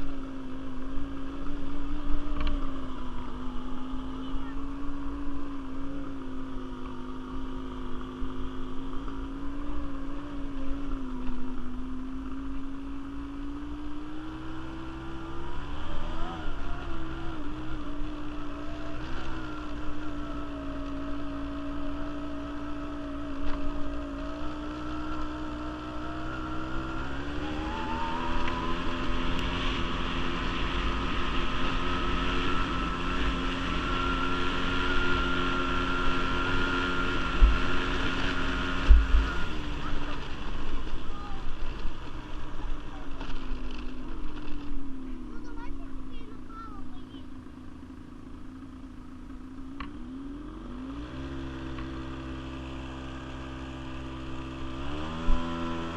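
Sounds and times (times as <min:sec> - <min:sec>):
quad bike engine revving: 0:00.0 - 0:55.9.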